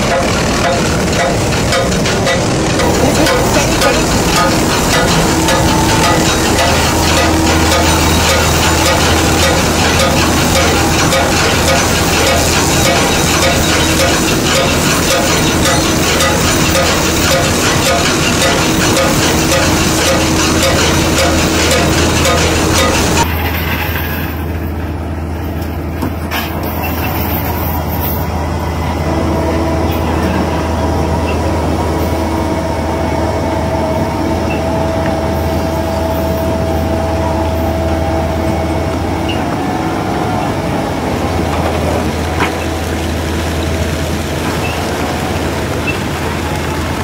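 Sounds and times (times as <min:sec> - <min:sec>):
boat engine drone: 0:00.0 - 0:47.0
high steady whine: 0:00.0 - 0:47.0.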